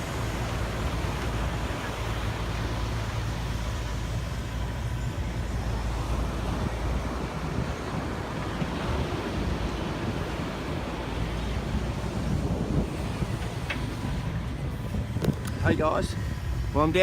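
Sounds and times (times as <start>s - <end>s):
surf washing: 0.0s - 17.0s
wind on microphone: 0.0s - 17.0s.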